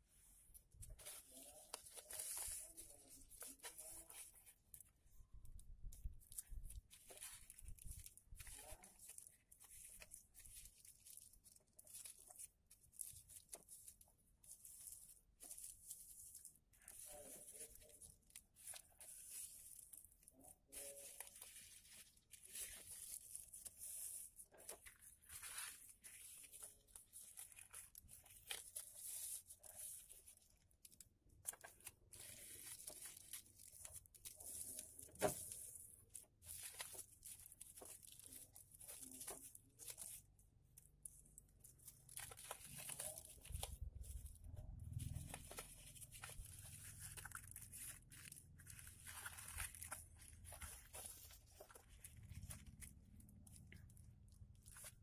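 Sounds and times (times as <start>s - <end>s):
paper rustling and crinkling: 0.0s - 55.0s.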